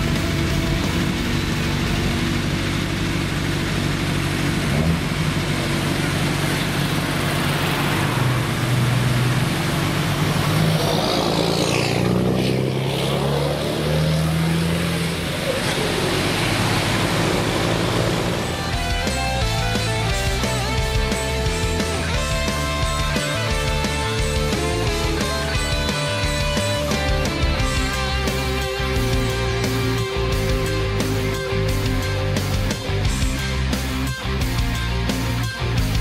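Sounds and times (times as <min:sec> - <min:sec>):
diesel truck accelerating past: 0:00.0 - 0:33.2.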